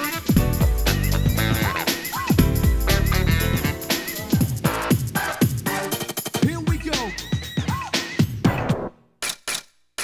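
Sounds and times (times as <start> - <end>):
funky electronic music: 0.0 - 9.0.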